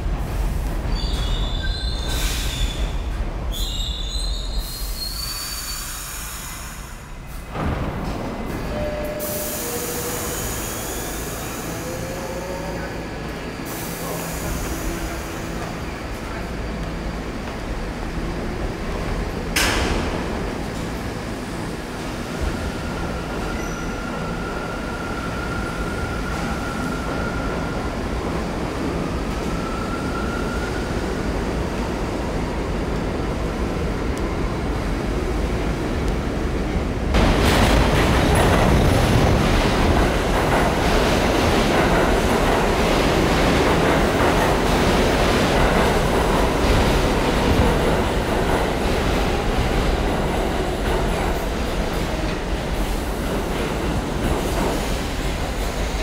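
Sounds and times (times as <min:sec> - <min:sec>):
subway train rumble and hiss: 0:00.0 - 0:56.0.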